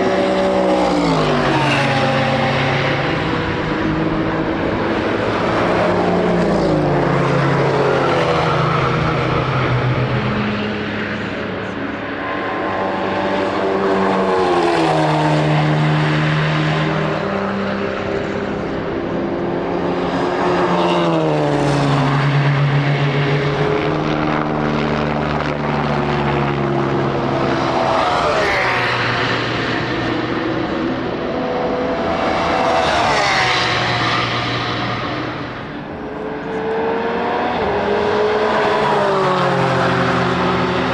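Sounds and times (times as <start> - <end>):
race cars passing: 0.0 - 40.9.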